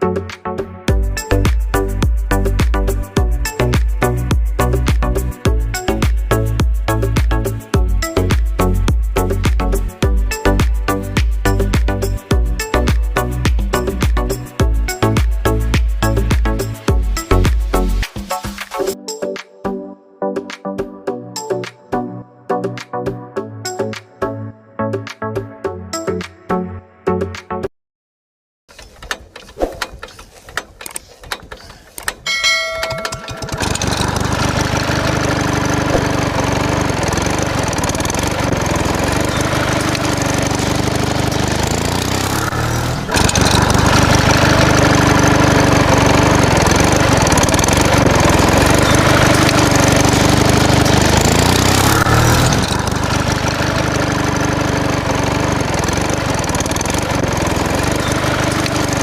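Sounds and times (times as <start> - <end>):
small engine running: 1.0 - 18.7, 28.7 - 59.0.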